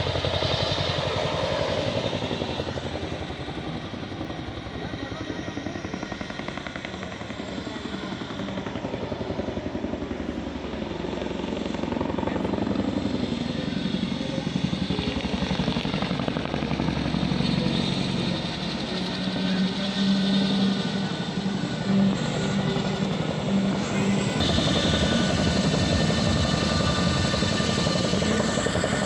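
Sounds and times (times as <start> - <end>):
helicopter rotor beat: 0.0 - 29.0
turbine whine: 0.0 - 29.0.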